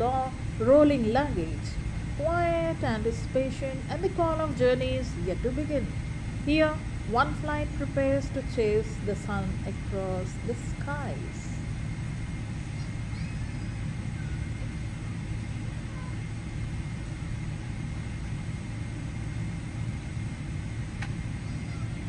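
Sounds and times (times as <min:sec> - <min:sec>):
jet airliner rumble: 0:00.0 - 0:22.0.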